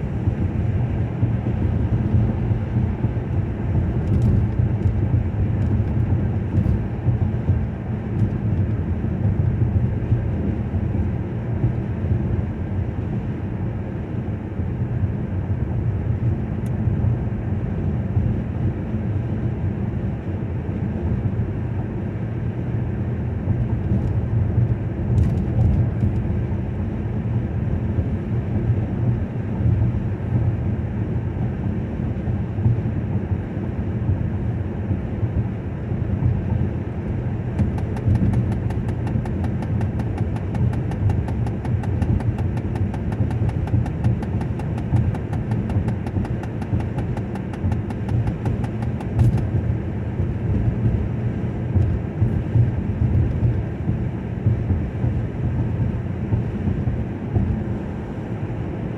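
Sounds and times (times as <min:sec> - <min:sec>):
car driving road noise: 0:00.0 - 0:58.9.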